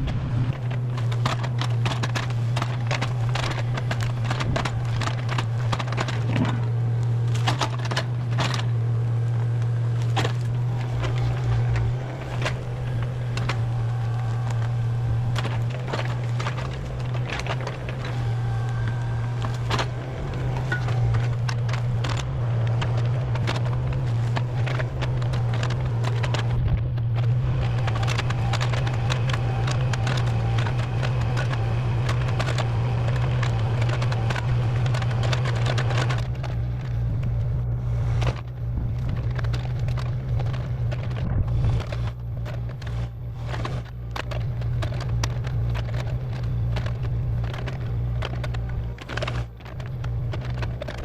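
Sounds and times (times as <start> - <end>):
machine engine running: 0.0 - 51.0
wood crackling and splintering: 0.0 - 51.0.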